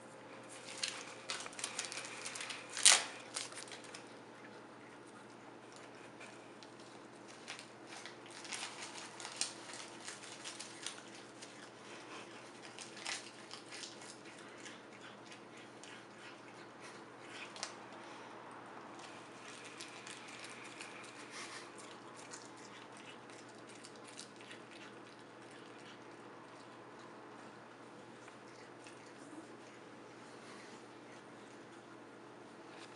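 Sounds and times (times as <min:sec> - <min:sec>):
cat chewing crisp seaweed: 0:00.4 - 0:32.9.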